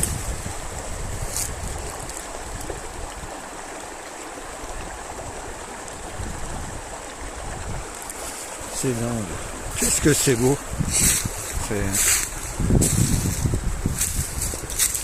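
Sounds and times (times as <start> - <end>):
river running over rocks: 0.0 - 15.0.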